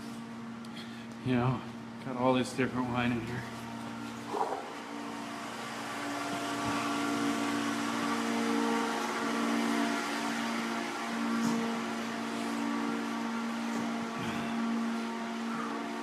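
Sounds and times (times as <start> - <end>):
machine hum with held tones: 0.0 - 16.0.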